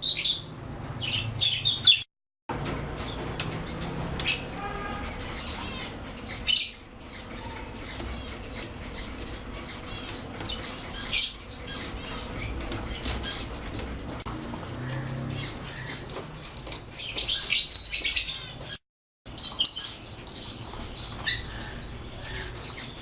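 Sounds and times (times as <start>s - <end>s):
parrots chirping and clicking: 0.0s - 23.0s.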